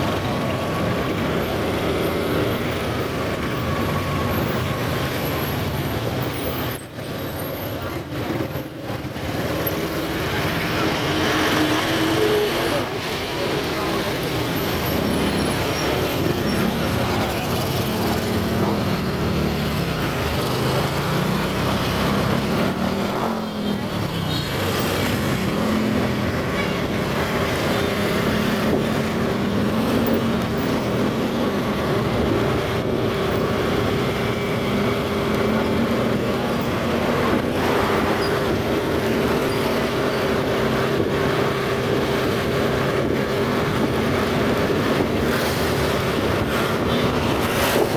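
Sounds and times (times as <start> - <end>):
road and traffic noise: 0.0 - 47.9.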